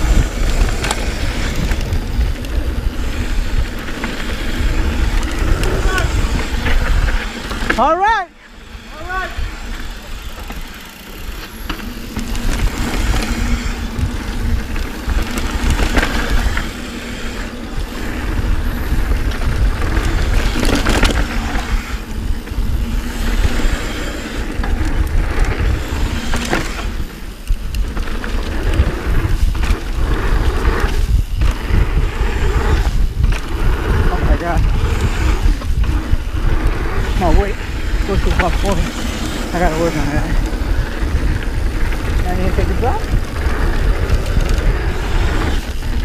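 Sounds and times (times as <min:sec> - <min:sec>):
bike chain and frame rattling: 0:00.0 - 0:46.0
tyres on packed dirt: 0:00.0 - 0:46.0
wind rumble on microphone: 0:00.0 - 0:46.0.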